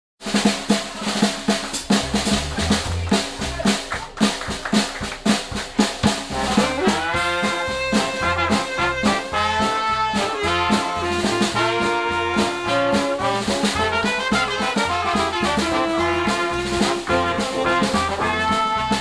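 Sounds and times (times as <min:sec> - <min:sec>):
brass horns: 0:00.2 - 0:19.0
drum kit: 0:00.2 - 0:19.0
jazz band playing: 0:00.2 - 0:19.0
bass line: 0:00.8 - 0:19.0.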